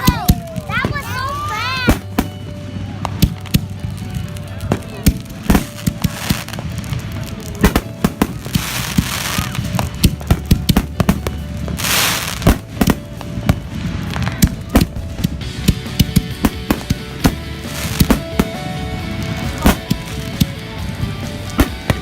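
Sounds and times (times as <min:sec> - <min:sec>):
fireworks bangs and pops: 0:00.0 - 0:22.0
hissing crackling fireworks bursts: 0:00.0 - 0:22.0.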